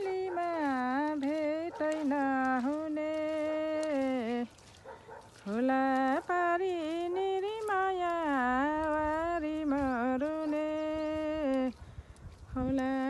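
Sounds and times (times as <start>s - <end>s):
person singing folk song: 0.0s - 13.0s.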